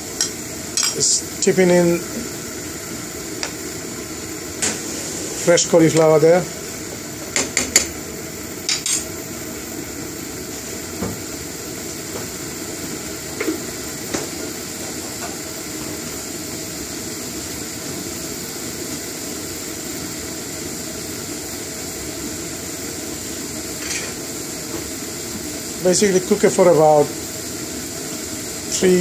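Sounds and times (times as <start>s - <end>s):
water hissing on gas burner: 0.0s - 29.0s.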